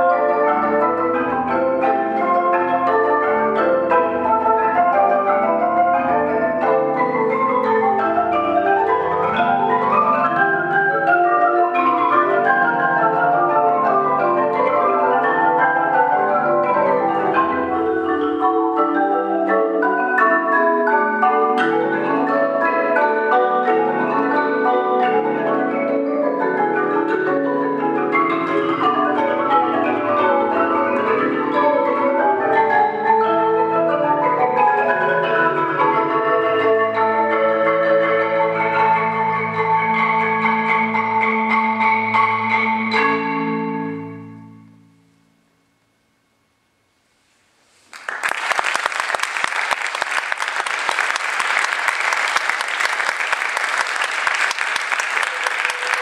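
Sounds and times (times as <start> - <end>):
marimba ensemble playing fast notes: 0.0 - 44.7, 48.2 - 56.0.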